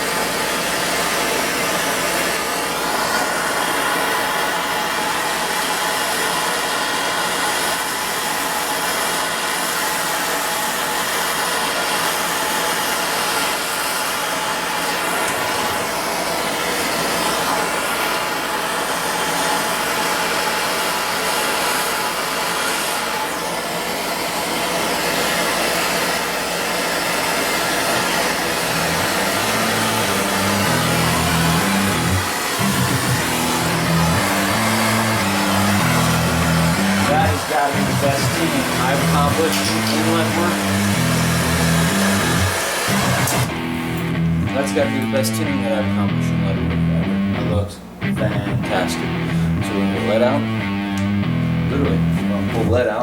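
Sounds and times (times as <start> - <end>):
gas torch burning: 0.0 - 46.6.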